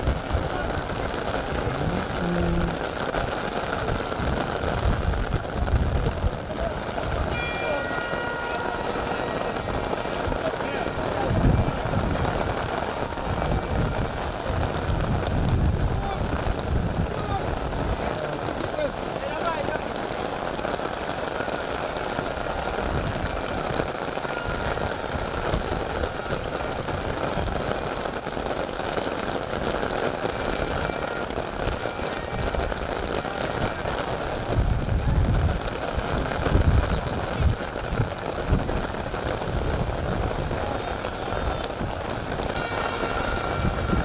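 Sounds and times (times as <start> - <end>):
wind buffeting microphone: 0.0 - 19.1, 20.0 - 28.4, 29.4 - 44.0
crowd babble: 0.0 - 44.0.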